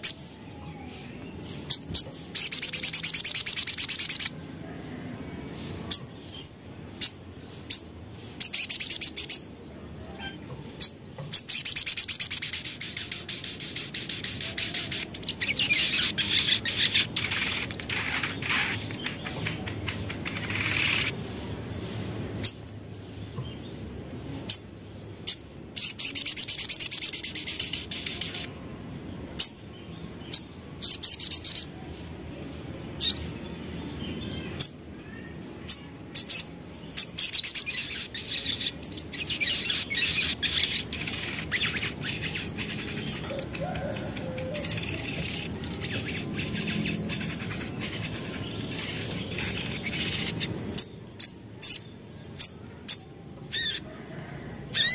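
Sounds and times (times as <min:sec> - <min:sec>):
sharp bird chips: 0:00.0 - 0:04.4, 0:05.6 - 0:09.6, 0:10.2 - 0:28.6, 0:30.2 - 0:32.0, 0:32.6 - 0:53.8
bird trilling song: 0:00.0 - 0:28.6, 0:29.3 - 0:31.8, 0:33.0 - 0:53.9, 0:54.7 - 0:54.9.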